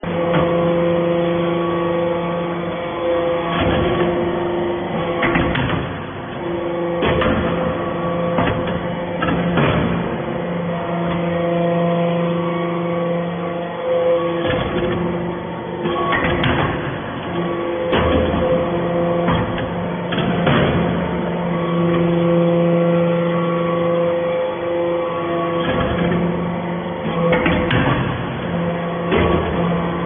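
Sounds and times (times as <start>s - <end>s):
baler machine hum: 0.0s - 30.0s
loud metallic clanks: 0.0s - 30.0s.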